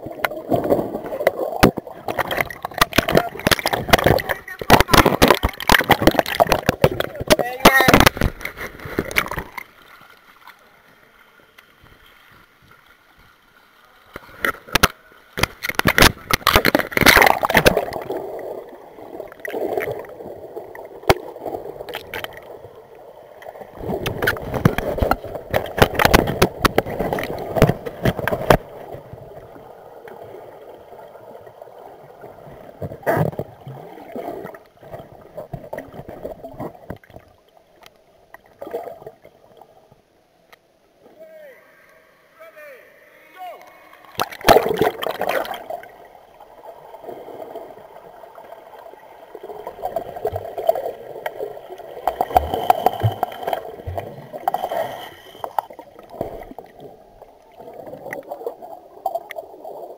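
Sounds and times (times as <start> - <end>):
underwater gurgling and sloshing: 0.0 - 42.4, 43.6 - 59.9.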